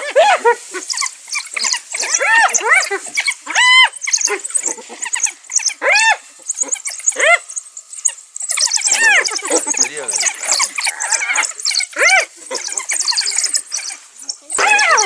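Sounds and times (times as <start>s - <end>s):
animals squealing calls: 0.0s - 15.0s
high twittering chirps: 0.0s - 15.0s.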